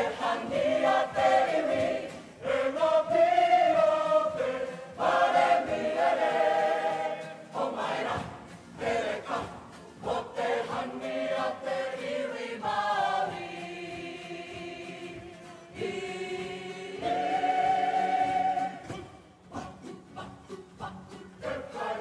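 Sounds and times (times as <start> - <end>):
acoustic guitar: 0.0 - 22.0
group singing together: 0.0 - 22.0.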